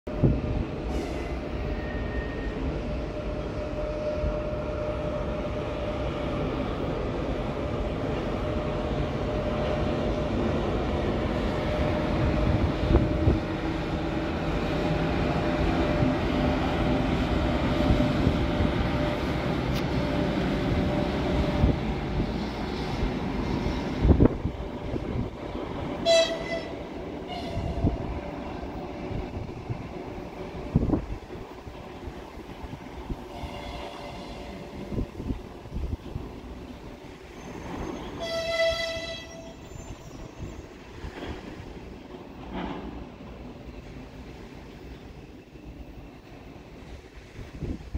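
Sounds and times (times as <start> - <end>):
electric locomotive humming and whining: 0.1 - 47.9.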